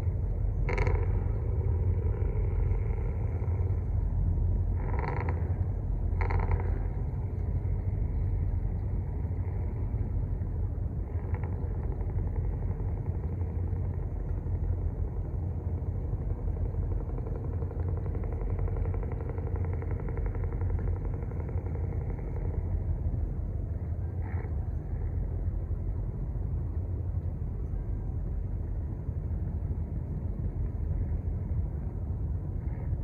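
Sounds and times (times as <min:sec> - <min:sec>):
faint higher hum: 0:00.0 - 0:33.0
ship engine droning: 0:00.0 - 0:33.0.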